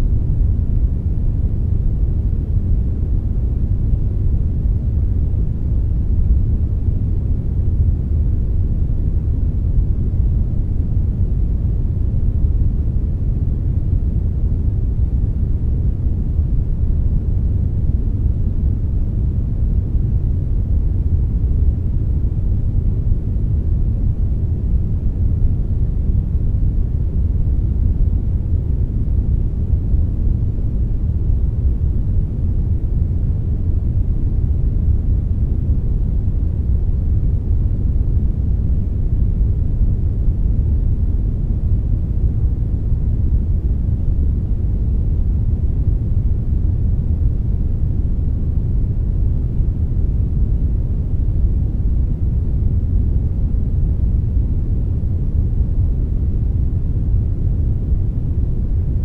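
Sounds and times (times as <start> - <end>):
faint white noise hiss: 0.0 - 59.0
synthetic brown noise rumble: 0.0 - 59.0.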